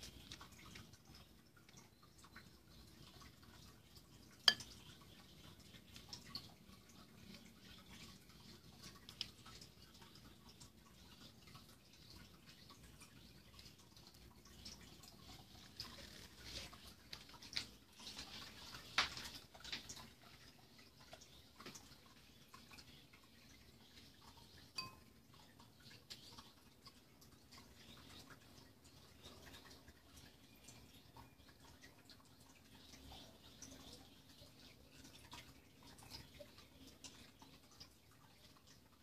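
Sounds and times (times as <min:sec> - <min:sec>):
faint clicks and ticks: 0:00.0 - 0:39.0.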